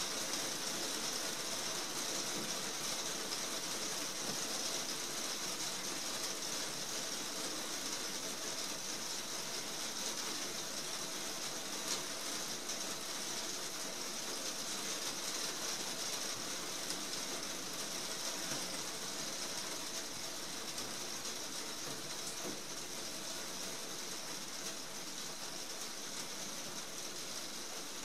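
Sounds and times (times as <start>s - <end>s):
heavy rain on roof: 0.0s - 28.0s.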